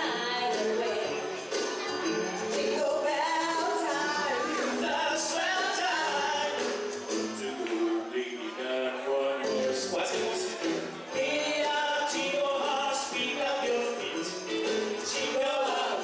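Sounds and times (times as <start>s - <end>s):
backing music: 0.0s - 16.0s
man and woman singing duet: 2.5s - 10.5s, 11.1s - 16.0s.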